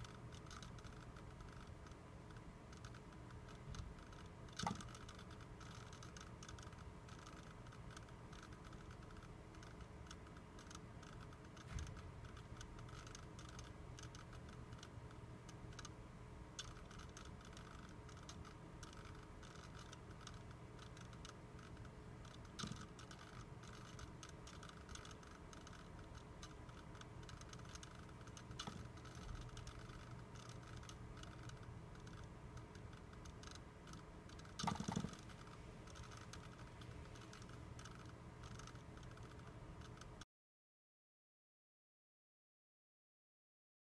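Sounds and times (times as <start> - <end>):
faint rapid irregular clicking: 0.0 - 40.2
low steady hum: 0.0 - 40.2.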